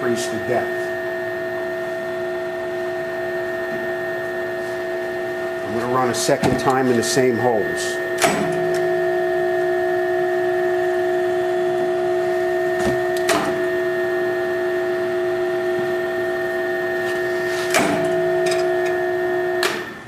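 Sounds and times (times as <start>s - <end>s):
tapping machine motor whine: 0.0s - 20.0s.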